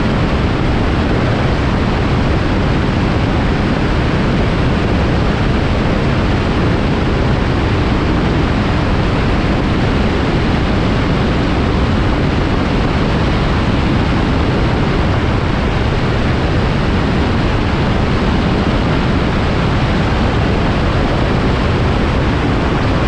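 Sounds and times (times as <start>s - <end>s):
aircraft engine: 0.0s - 23.0s
wind rushing: 0.0s - 23.0s.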